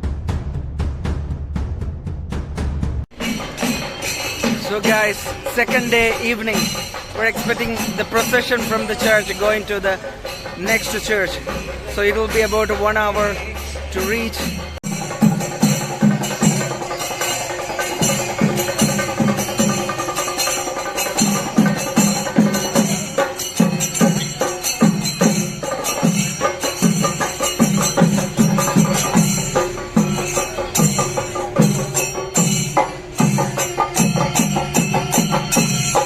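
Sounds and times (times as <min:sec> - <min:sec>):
drums beating fast rhythm: 0:00.0 - 0:36.0
bright metallic strikes: 0:03.1 - 0:36.0.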